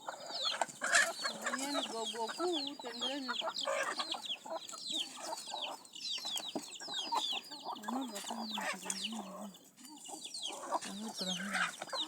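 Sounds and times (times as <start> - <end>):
chicks peeping: 0.0 - 12.0
hen calling: 0.0 - 12.0.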